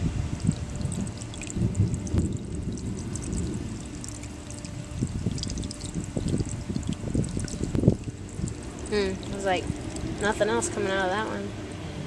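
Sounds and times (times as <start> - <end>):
water pouring and splashing on sludge: 0.2 - 11.4.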